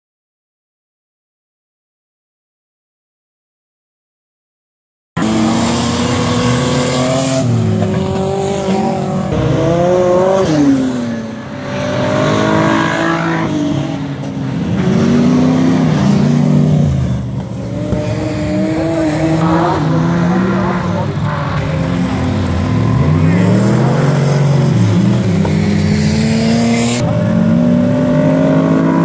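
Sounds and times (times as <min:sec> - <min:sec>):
race car engines revving: 0:05.2 - 0:29.0.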